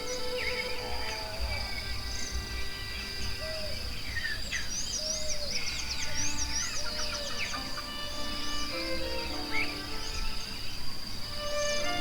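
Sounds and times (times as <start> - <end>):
birds chirping and twittering: 0.0 - 12.0
insects droning: 0.0 - 12.0.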